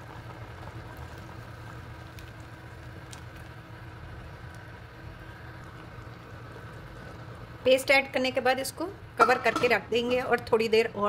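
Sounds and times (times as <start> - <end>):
soup simmering in a pot: 0.0 - 10.3.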